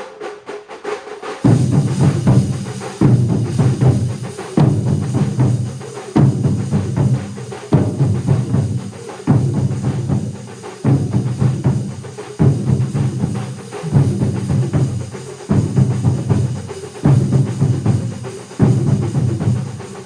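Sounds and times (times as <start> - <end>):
drum ensemble playing: 0.0 - 20.0.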